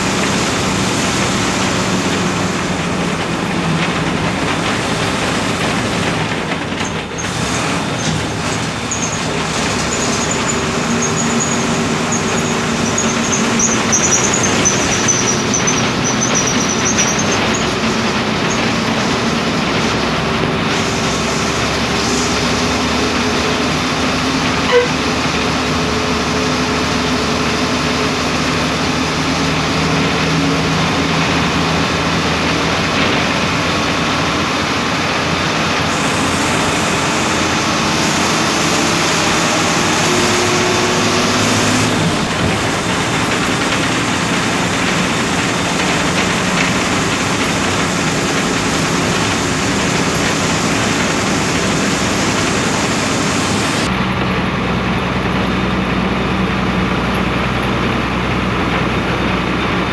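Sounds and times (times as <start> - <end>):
diesel bus engine running: 0.0 - 59.9
road and cabin noise: 0.0 - 59.9.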